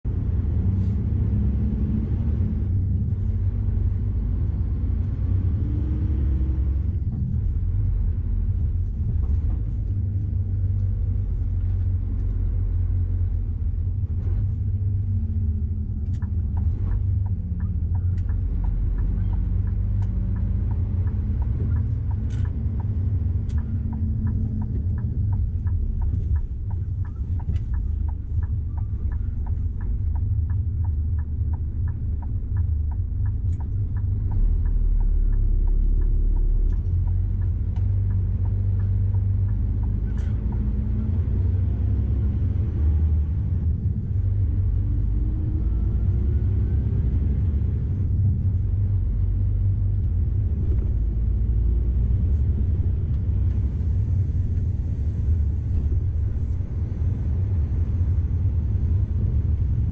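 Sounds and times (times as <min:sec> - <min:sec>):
truck diesel engine rumble: 0:00.0 - 0:59.9
turn indicator ticking: 0:02.6 - 0:59.9.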